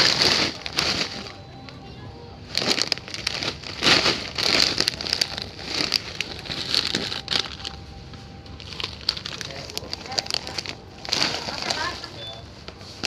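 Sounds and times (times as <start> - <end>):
plastic snack bags crinkling: 0.0 - 13.0.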